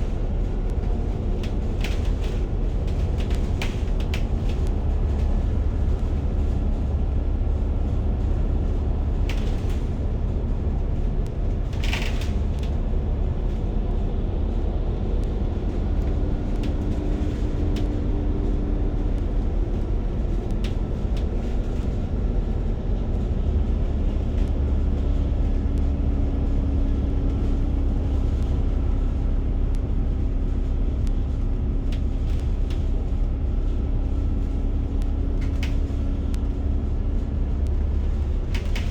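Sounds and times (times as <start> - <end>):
bus engine and road rumble: 0.0 - 38.9
faint engine hum: 0.0 - 38.9.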